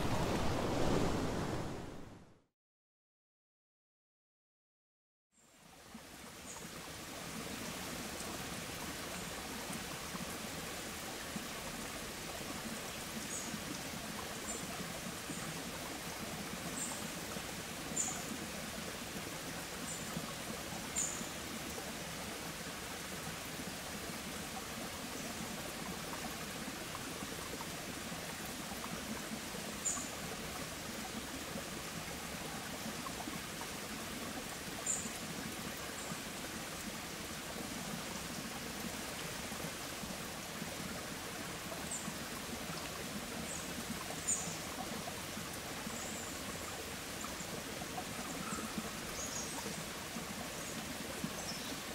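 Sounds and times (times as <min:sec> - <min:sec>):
running water rushing: 0:00.0 - 0:02.4, 0:05.6 - 0:51.9.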